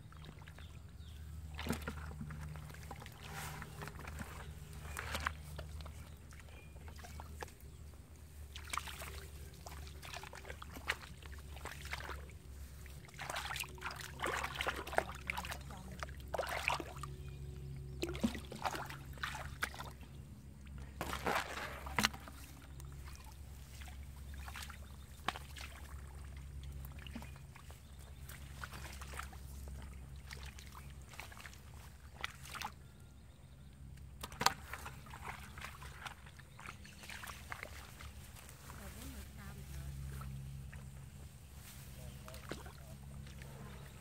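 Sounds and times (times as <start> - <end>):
steady low hum: 0.0 - 44.0
water sloshing and splashing: 0.0 - 44.0.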